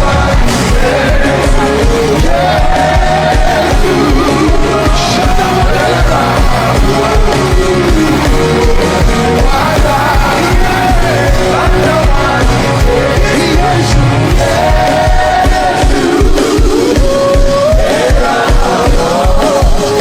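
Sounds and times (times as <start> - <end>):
band playing: 0.0 - 20.0
gospel singing: 0.0 - 20.0
steady drum beat: 0.0 - 20.0.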